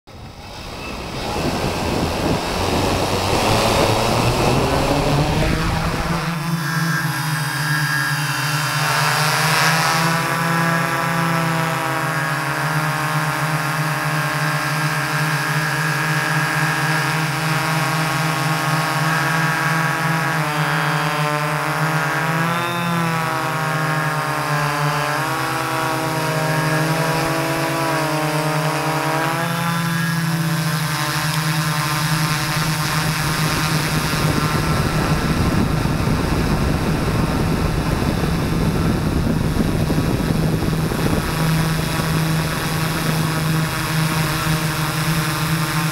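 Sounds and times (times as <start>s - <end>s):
rough rushing noise: 0.1s - 11.6s, 13.5s - 45.9s
drone motors whining: 0.1s - 45.9s.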